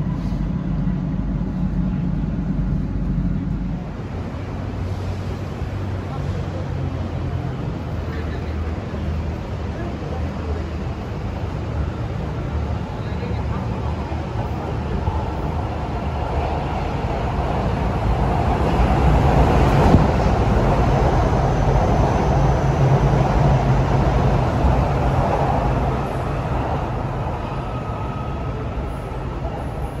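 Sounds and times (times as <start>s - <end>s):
metro train rumbling past: 0.0s - 30.0s.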